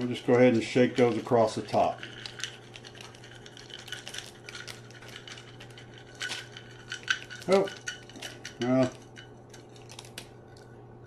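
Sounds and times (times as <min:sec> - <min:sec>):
almonds rattling in a measuring cup: 0:00.0 - 0:09.8.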